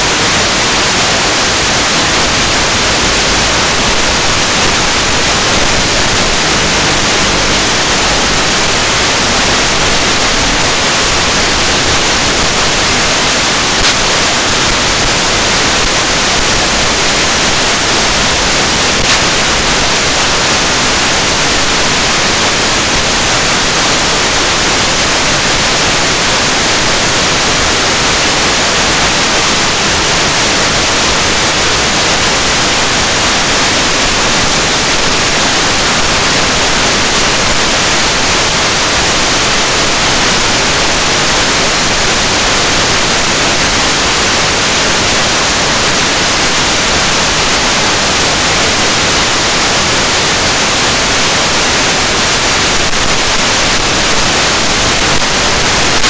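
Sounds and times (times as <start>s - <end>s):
loud static hiss: 0.0s - 56.0s.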